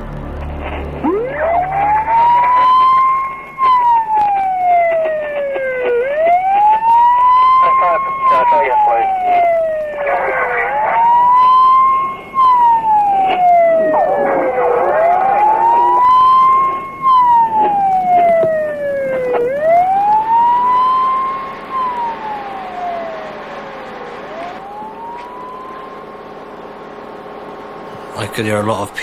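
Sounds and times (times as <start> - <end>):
emergency siren wailing: 0.0 - 28.3.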